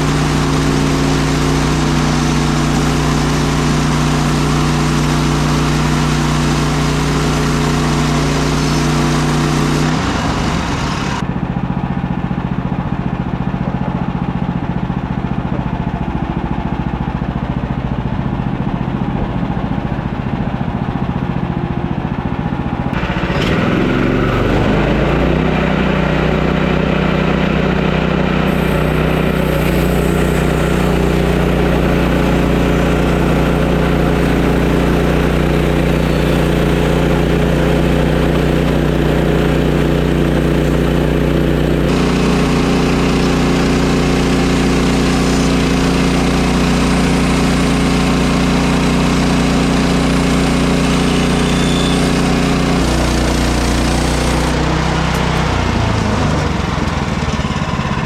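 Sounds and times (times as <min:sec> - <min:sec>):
sawmill gas engine running: 0:00.0 - 0:58.0.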